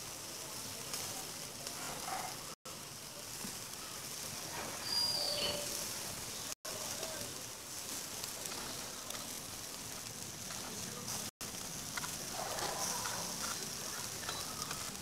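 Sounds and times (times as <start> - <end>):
meat sizzling on charcoal grill: 0.0 - 15.0.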